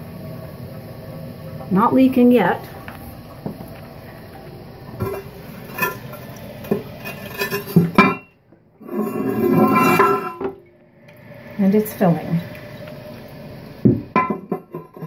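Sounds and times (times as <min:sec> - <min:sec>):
toilet tank filling with water: 0:00.0 - 0:15.0.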